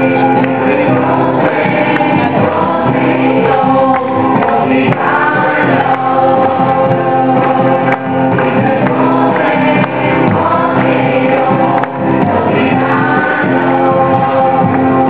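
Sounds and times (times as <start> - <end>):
group singing devotional song: 0.0 - 15.0
held accompaniment: 0.0 - 15.0.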